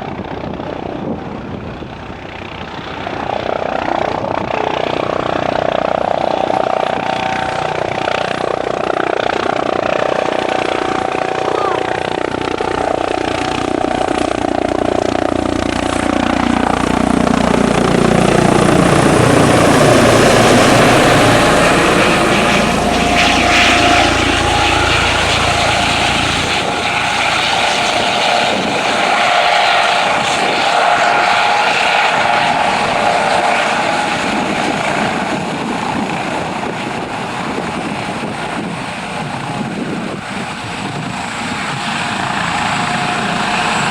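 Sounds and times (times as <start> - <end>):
helicopter rotor and turbine noise: 0.0 - 43.9.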